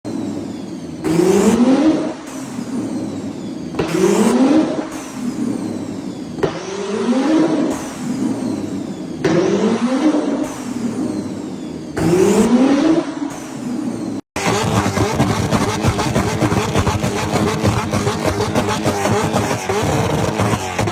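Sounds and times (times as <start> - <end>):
car engine revving: 0.2 - 20.9.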